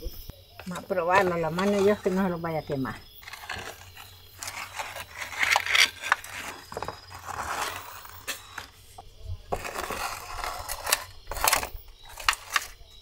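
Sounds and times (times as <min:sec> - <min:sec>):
metal tray scraping in clay oven: 0:00.6 - 0:13.0.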